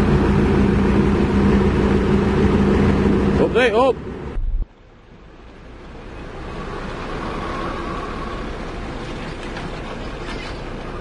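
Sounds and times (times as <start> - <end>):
diesel construction machinery running: 0.0 - 11.0.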